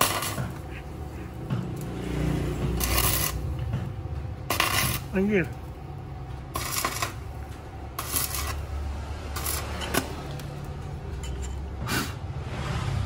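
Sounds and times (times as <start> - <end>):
welding arc crackling and sizzling: 0.0 - 11.2.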